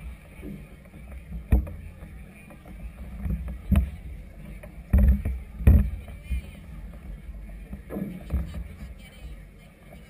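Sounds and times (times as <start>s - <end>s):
low wind rumble on microphone: 0.0s - 10.0s.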